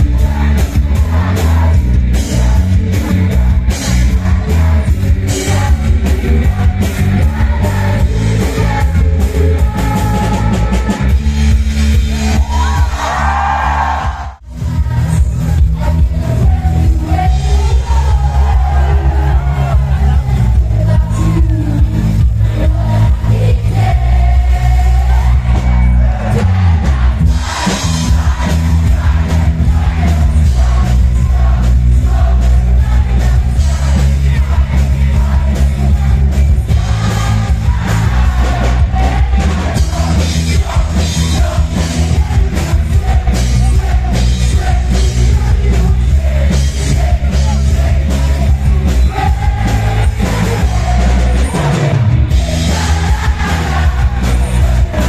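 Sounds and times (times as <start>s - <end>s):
heavy bass beat and drums: 0.0s - 55.0s
singers on microphone: 0.0s - 55.0s.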